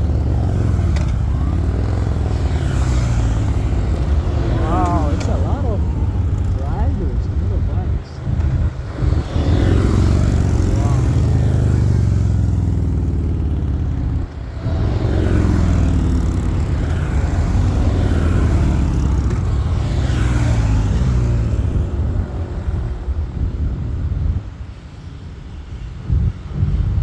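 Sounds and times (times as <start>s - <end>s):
motorbikes riding past: 0.0s - 27.0s.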